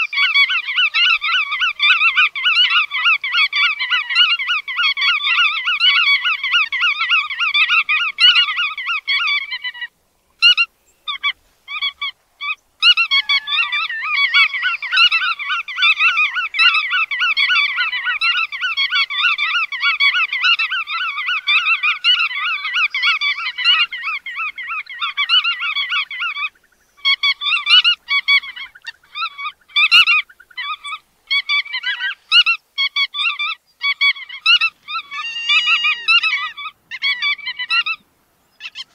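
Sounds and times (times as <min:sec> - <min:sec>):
godwits calling: 0:00.0 - 0:38.9.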